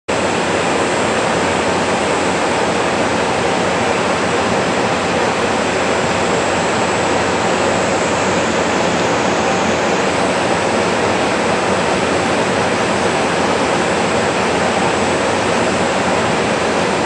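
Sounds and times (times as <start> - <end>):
diesel engines idling: 0.1 - 17.0
radiator fan rushing: 0.1 - 17.0.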